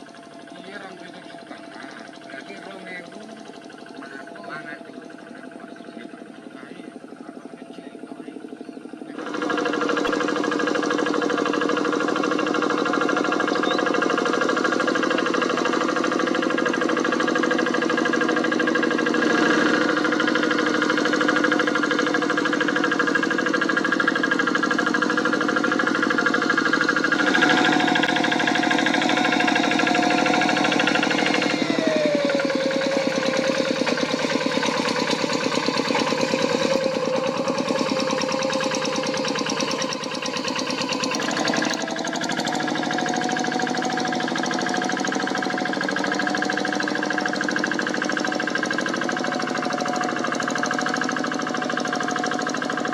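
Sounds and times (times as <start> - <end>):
diesel tractor engine under load: 0.0 - 52.9.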